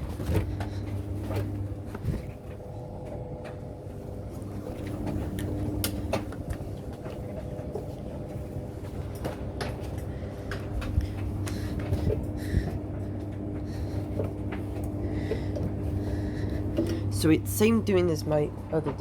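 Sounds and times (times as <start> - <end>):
tumble dryer humming: 0.0 - 19.0.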